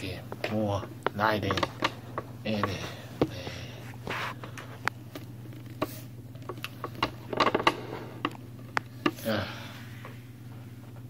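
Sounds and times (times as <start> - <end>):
low electrical hum: 0.0 - 11.0
objects clicking and scraping: 0.4 - 9.2.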